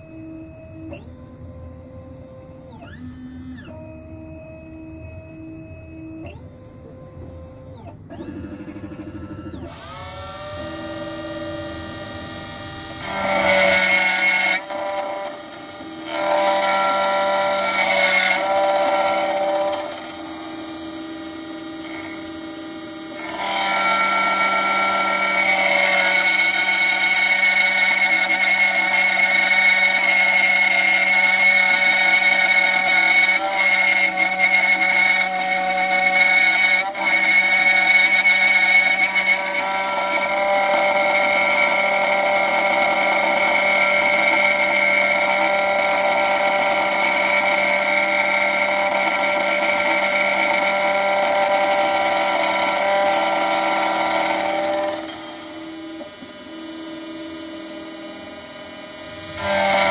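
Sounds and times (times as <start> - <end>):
key-cutting machine whining: 0.0 - 59.9.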